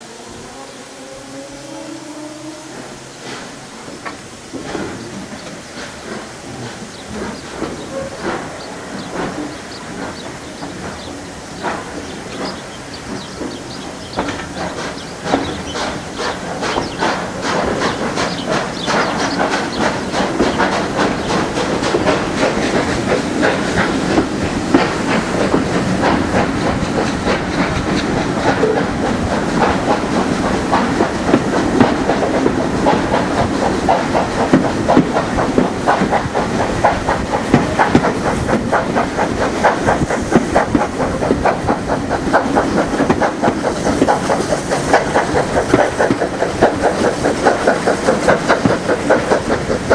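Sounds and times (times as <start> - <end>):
steam hiss: 0.0 - 49.9
steam train chuffing: 0.0 - 49.9.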